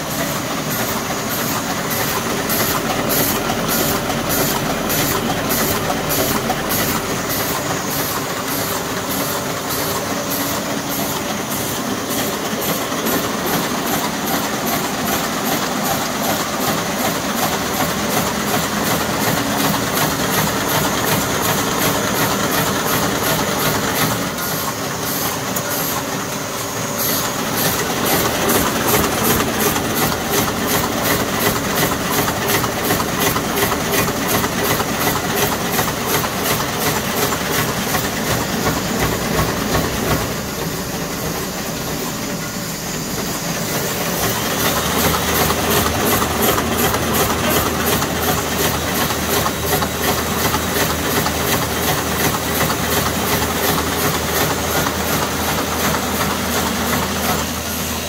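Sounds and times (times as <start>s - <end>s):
machine rhythmic clatter: 0.0s - 58.0s.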